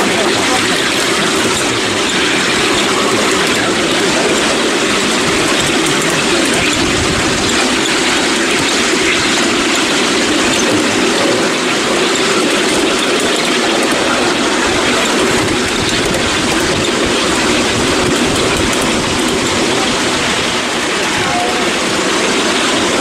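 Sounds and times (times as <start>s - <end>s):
train wheels running on rails: 0.0s - 23.0s.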